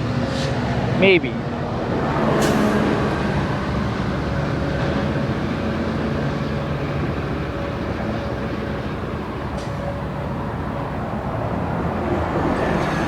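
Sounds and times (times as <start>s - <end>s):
diesel locomotive drone: 0.0s - 13.0s
train rumble: 0.0s - 13.0s.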